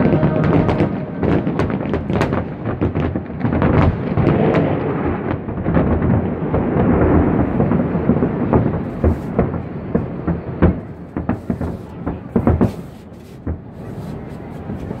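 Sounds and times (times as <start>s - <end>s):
distant fireworks booming: 0.0s - 15.0s.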